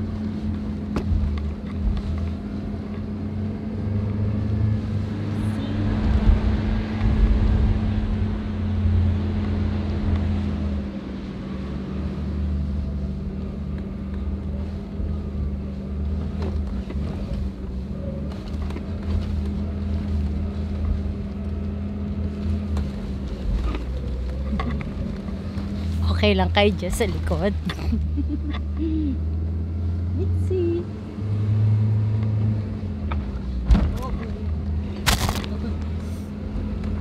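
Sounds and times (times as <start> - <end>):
car engine drone: 0.0 - 37.0.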